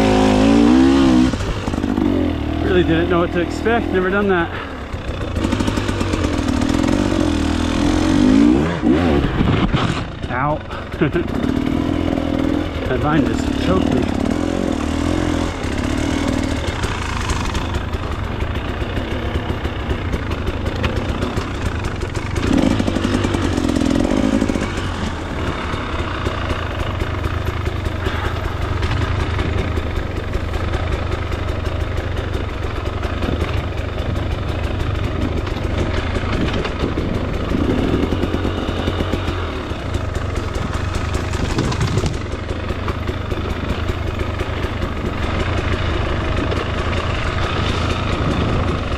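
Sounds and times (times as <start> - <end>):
two-stroke dirt bike engine: 0.0 - 48.9.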